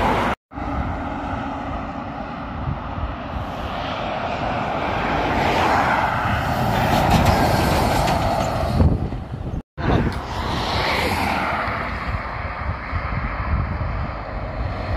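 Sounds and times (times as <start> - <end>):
car passing by: 0.0 - 9.0, 9.8 - 14.9.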